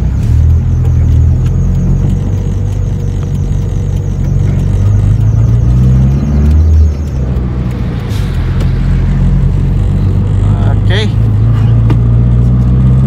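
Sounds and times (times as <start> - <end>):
car engine loud low drone: 0.0 - 13.0.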